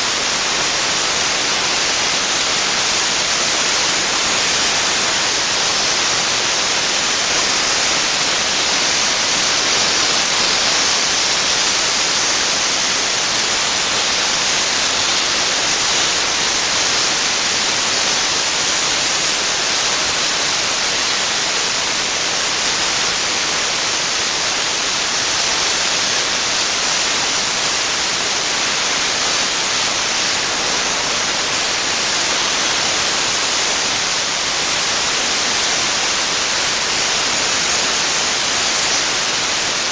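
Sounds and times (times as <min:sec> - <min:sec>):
dry ice blasting nozzle hissing: 0:00.0 - 0:39.9.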